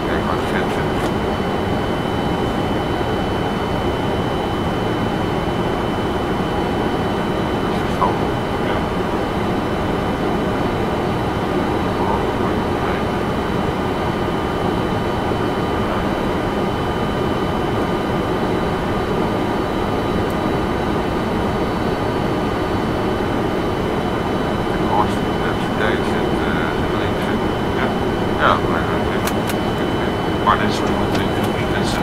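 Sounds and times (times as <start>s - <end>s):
faint steady high tones: 0.0s - 32.0s
jet engine rumble and hiss: 0.0s - 32.0s.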